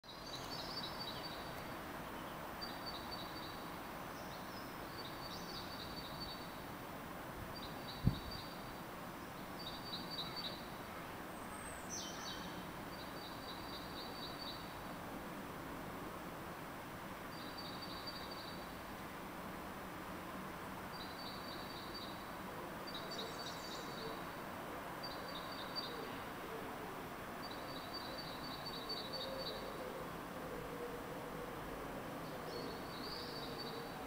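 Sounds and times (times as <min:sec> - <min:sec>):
songbird singing: 0:00.0 - 0:06.8, 0:07.4 - 0:15.0, 0:17.2 - 0:19.0, 0:20.8 - 0:34.0
steady background noise: 0:00.0 - 0:34.0.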